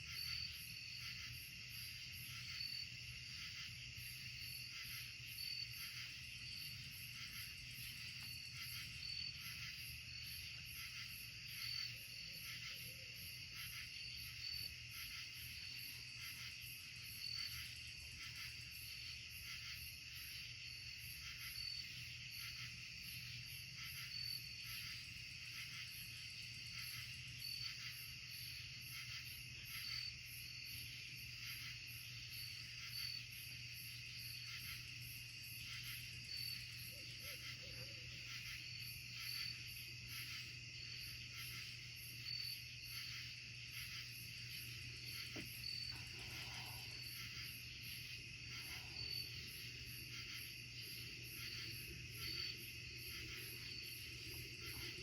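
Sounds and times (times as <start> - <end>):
crickets trilling: 0.0 - 55.0
pulsing high insect chirp: 0.0 - 55.0.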